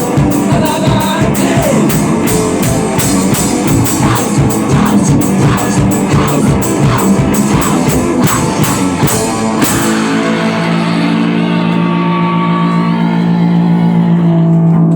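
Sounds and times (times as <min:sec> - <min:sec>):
drum kit: 0:00.0 - 0:12.2
electric guitar: 0:00.0 - 0:14.9.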